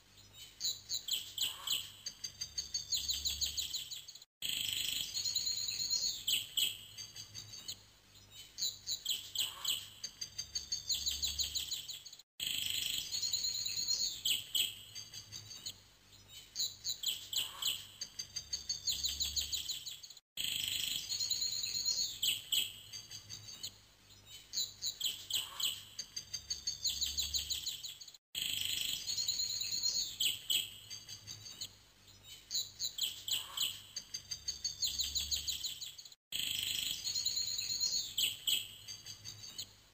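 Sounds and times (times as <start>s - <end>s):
birds chirping and trilling: 0.0s - 39.8s.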